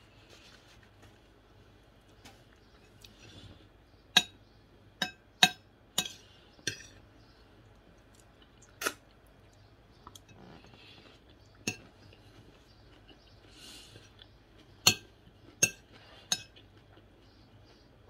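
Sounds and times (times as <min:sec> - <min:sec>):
soft chewing: 0:00.0 - 0:03.8, 0:06.0 - 0:18.0.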